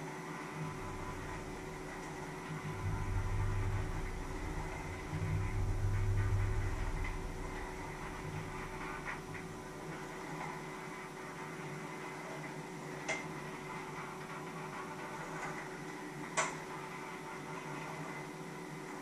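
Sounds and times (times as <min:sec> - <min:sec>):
steady kitchen hum: 0:00.0 - 0:19.0.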